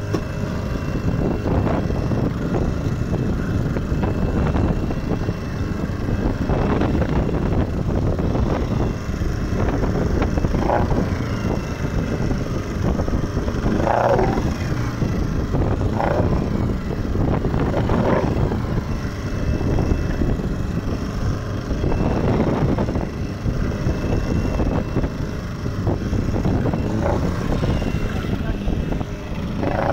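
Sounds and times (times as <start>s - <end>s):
boat motor running: 0.0s - 29.9s
water splashing along hull: 0.0s - 29.9s
wind buffeting microphone: 0.0s - 29.9s.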